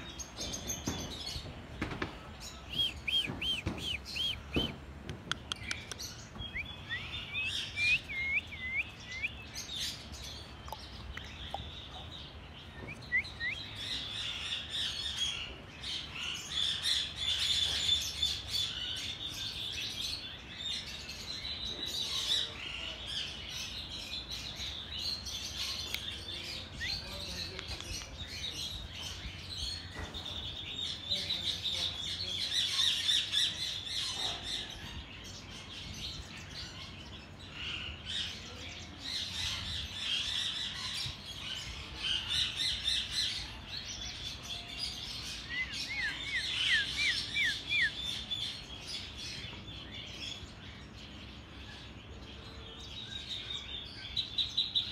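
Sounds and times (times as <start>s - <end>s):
birds chirping and twittering: 0.0s - 54.9s
harsh bird calls: 0.0s - 54.9s.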